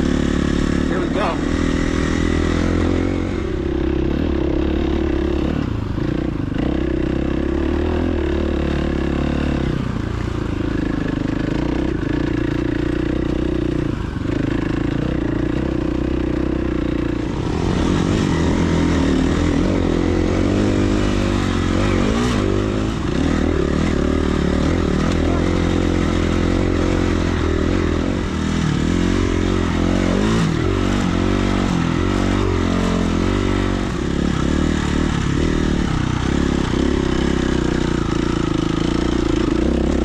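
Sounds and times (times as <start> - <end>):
dirt bike engine running: 0.0 - 40.0.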